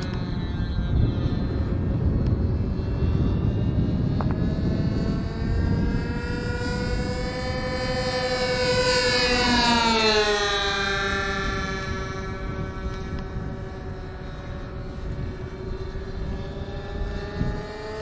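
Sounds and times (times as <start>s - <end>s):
propeller aircraft droning: 0.0s - 18.0s.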